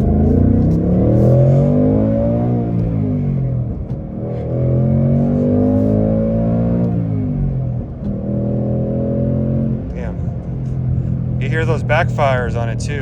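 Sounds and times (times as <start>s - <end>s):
car engine accelerating from inside: 0.0s - 13.0s
exhaust pops: 0.0s - 13.0s.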